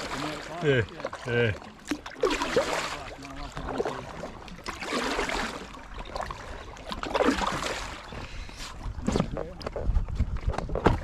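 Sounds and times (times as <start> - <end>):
paddle strokes swishing through water: 0.0 - 11.0.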